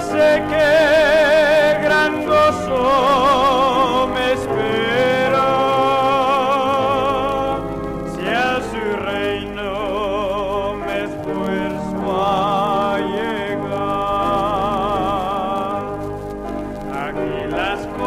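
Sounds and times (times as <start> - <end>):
hymn singing with vibrato: 0.0 - 18.0
organ chords: 0.0 - 18.0.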